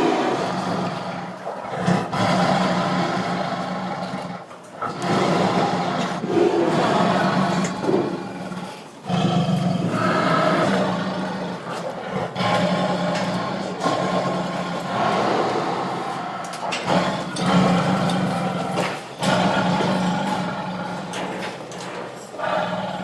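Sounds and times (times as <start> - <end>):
tiger roaring and growling: 0.0 - 23.0.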